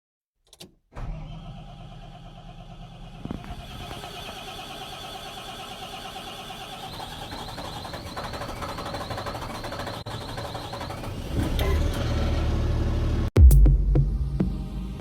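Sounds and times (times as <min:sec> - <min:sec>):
diesel engine running: 0:01.1 - 0:13.5.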